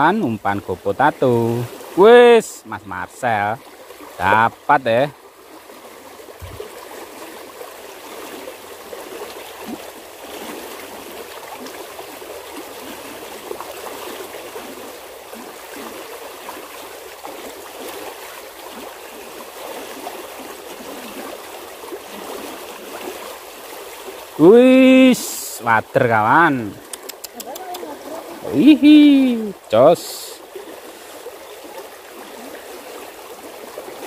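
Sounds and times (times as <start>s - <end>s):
water rushing over riffles: 0.0s - 34.0s.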